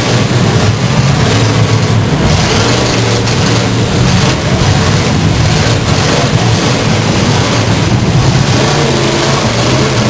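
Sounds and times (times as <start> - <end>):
car engines running: 0.0 - 10.0
cars grinding together: 0.0 - 10.0.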